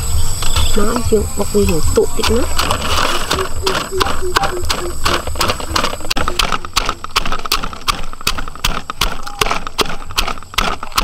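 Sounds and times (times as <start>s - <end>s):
pestle pounding in mortar: 1.6s - 11.0s.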